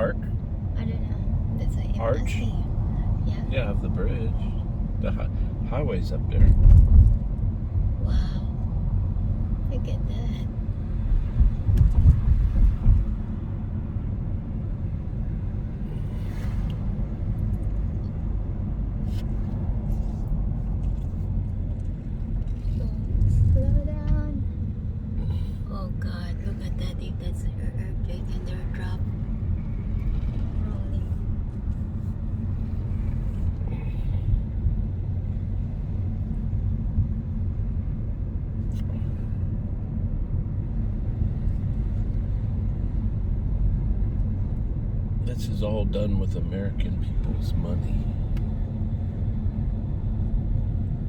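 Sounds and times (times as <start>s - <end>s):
vehicle road rumble from inside: 0.0s - 51.0s.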